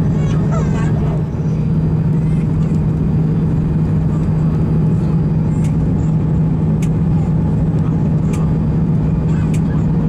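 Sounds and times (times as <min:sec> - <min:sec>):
aircraft engine drone: 0:00.0 - 0:10.0.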